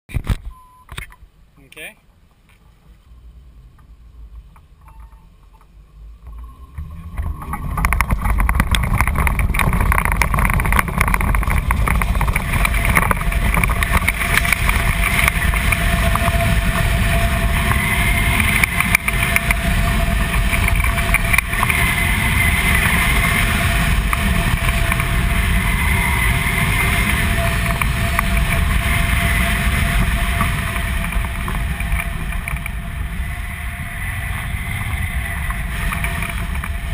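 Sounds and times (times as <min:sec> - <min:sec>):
steady droning tone: 0:02.5 - 0:36.9
heavy wind noise on microphone: 0:06.0 - 0:36.9.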